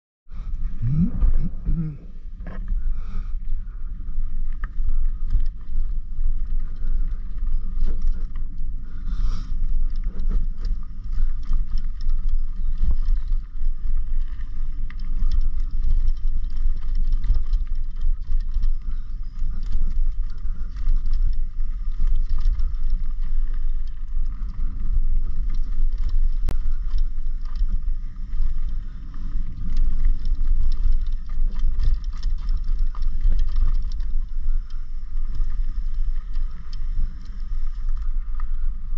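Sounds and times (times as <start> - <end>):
tyres rumbling on dirt: 0.4 - 38.9.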